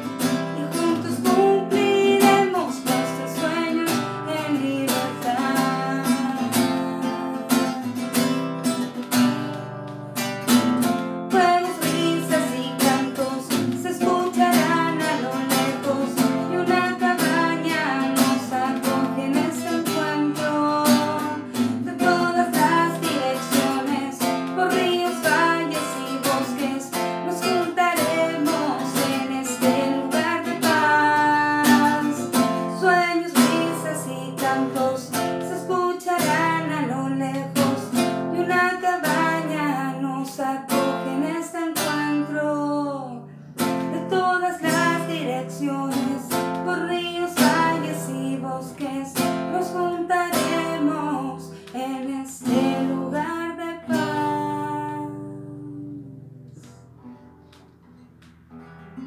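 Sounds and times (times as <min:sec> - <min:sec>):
woman singing: 0:00.0 - 0:08.1, 0:11.1 - 0:56.9
acoustic guitar strumming: 0:00.0 - 0:59.0.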